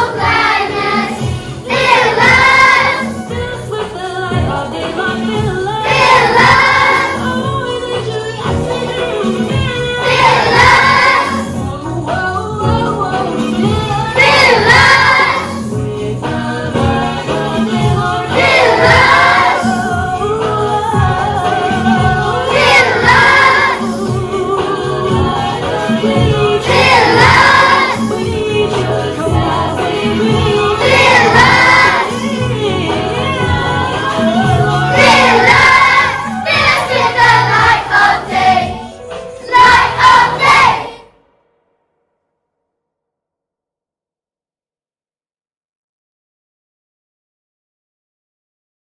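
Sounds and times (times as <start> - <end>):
backing track with bass and drums: 0.0 - 40.8
children's choir singing: 0.0 - 41.2
musical accompaniment: 0.0 - 41.2.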